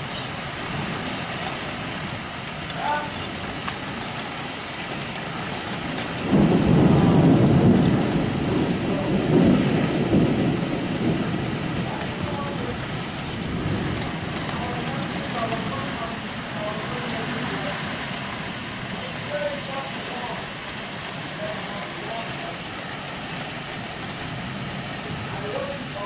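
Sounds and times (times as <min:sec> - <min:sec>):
rain falling: 0:00.0 - 0:26.0
thunder rumbling: 0:00.0 - 0:26.0.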